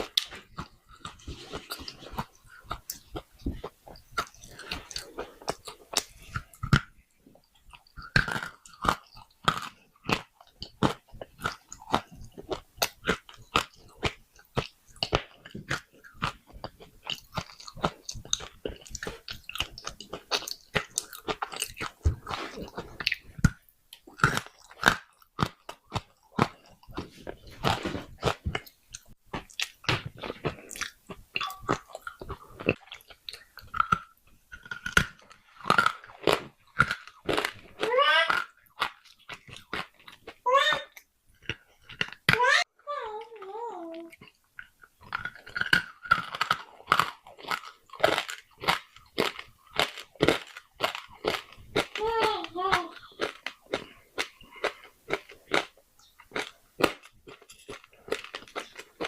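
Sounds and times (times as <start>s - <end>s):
clay pieces crunching when chewed: 0.0s - 42.4s, 44.1s - 59.0s.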